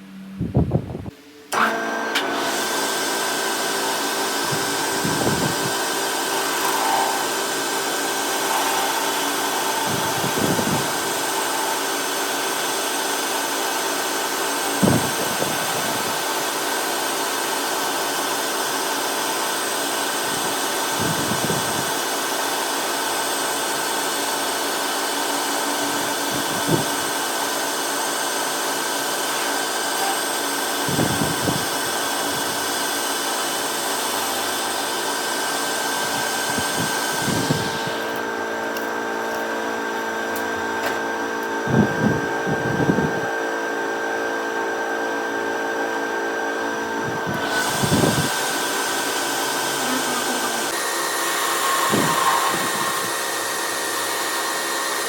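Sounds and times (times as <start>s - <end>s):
power tool motor running: 1.4s - 43.3s, 46.2s - 55.0s.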